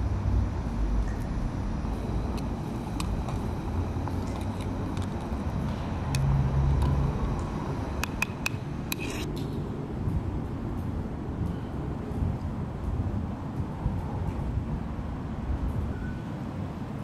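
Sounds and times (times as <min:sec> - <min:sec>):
camping stove burning: 0:00.0 - 0:14.3.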